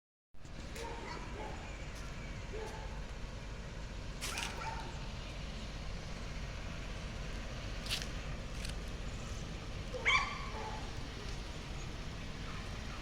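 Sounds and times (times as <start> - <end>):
steady low rumble: 0.4 - 13.0.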